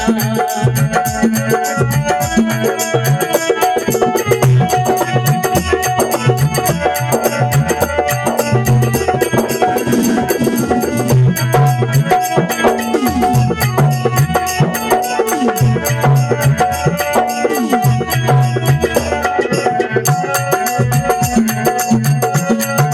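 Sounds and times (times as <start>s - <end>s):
hand drum rhythm: 0.0s - 22.9s.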